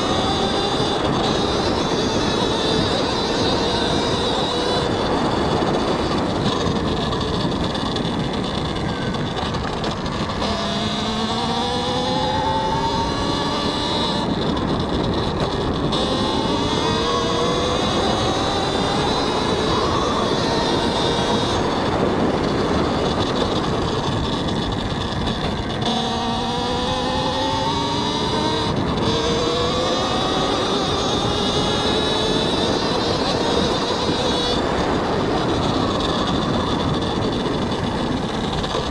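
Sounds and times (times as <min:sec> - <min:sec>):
electric motor whine: 0:00.0 - 0:38.9
wind and tyre rush: 0:00.0 - 0:38.9.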